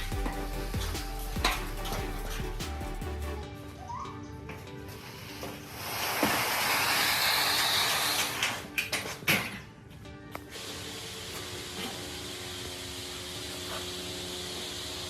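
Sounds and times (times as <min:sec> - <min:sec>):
background music: 0:00.0 - 0:12.7.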